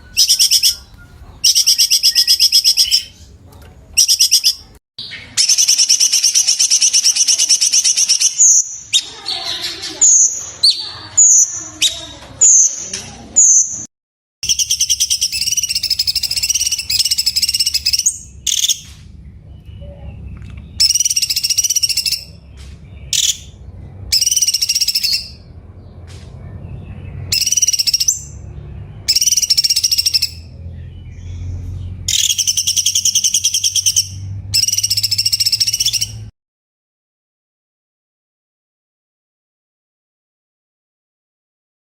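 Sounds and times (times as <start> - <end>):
bird singing: 0.0 - 36.3.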